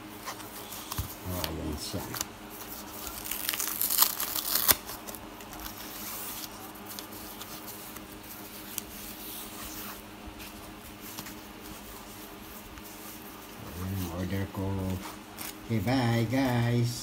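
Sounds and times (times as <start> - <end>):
foam packaging rustling: 0.0 - 16.6.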